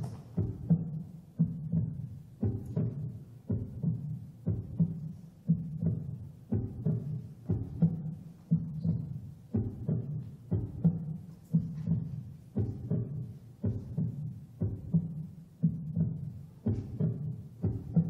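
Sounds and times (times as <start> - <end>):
heartbeat-like pulse music: 0.0 - 18.0.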